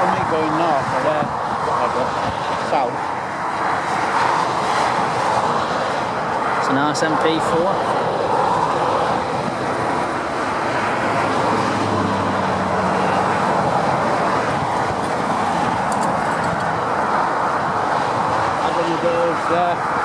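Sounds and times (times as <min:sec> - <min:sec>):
motorway traffic noise: 0:00.0 - 0:20.0
lorry engine hum: 0:01.2 - 0:20.0.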